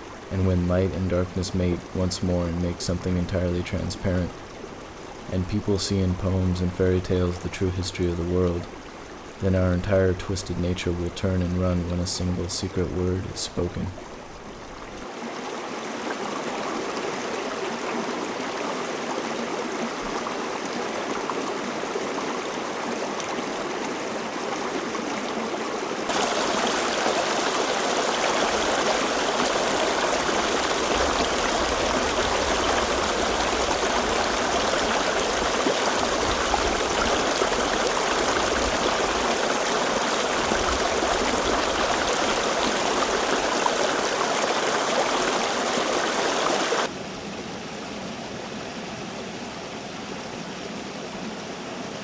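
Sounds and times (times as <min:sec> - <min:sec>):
stream flowing over rocks: 0:00.0 - 0:47.0.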